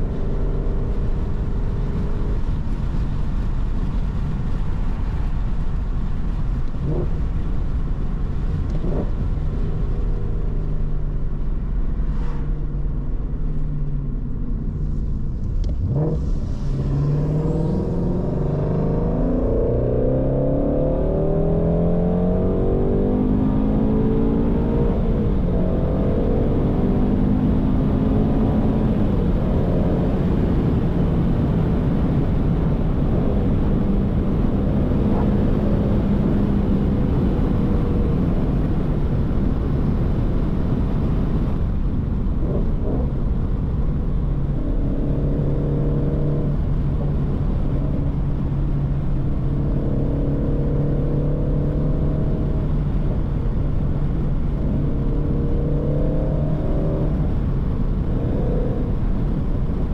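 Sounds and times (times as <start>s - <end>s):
car engine and exhaust cruising: 0.0s - 59.9s.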